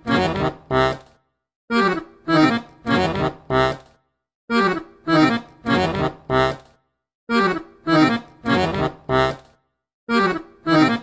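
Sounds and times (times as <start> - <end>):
accordion playing detached notes: 0.0 - 11.0.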